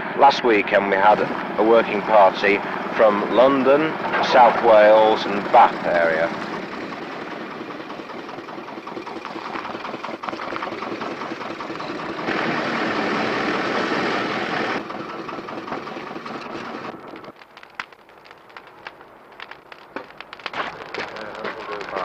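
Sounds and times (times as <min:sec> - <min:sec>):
small engine clattering: 0:01.1 - 0:22.0.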